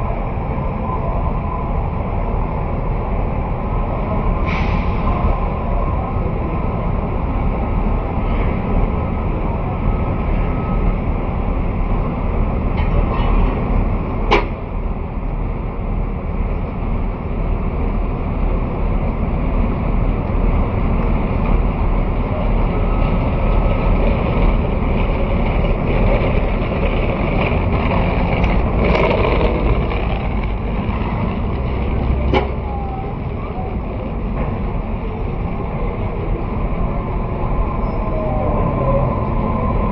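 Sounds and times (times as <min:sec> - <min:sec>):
street traffic rumble: 0:00.0 - 0:39.9.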